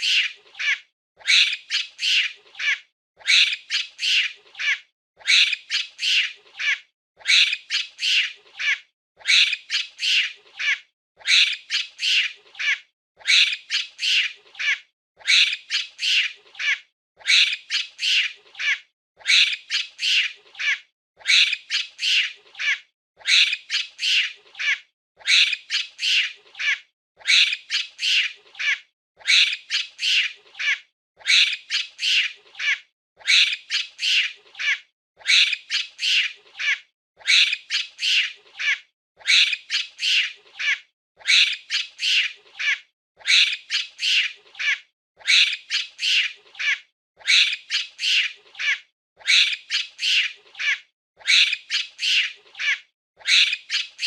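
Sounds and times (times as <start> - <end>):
monkey calls: 0.0 - 54.0.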